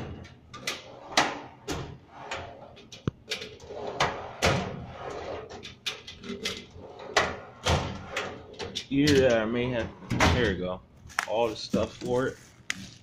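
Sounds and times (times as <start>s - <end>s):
metal drawers knocking and clunking: 0.0s - 10.7s.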